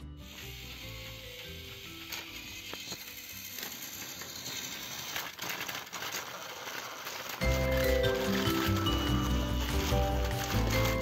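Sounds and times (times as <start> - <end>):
toy train motors grinding: 0.0 - 11.0.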